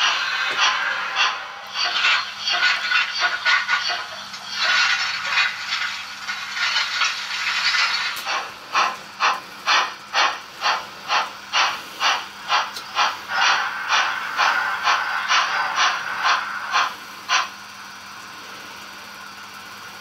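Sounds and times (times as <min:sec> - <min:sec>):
model steam locomotive chuffing: 0:00.0 - 0:20.0.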